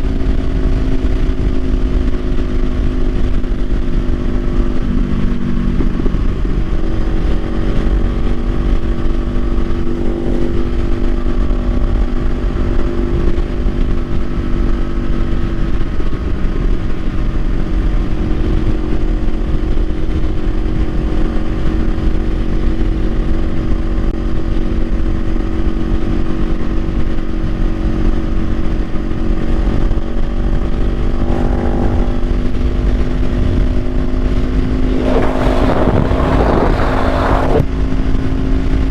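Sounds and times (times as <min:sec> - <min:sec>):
motorcycle engine cruising: 0:00.0 - 0:38.9
wind rumbling on microphone: 0:00.0 - 0:38.9.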